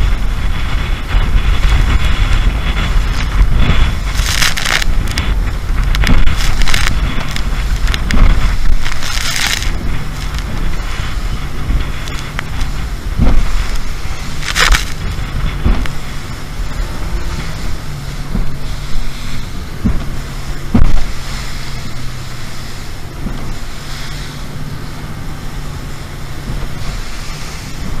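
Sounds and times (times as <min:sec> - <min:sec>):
hull slamming into waves: 0:00.0 - 0:28.0
outboard motor running: 0:00.0 - 0:28.0
water rushing: 0:00.0 - 0:28.0
wind buffeting microphone: 0:00.0 - 0:28.0.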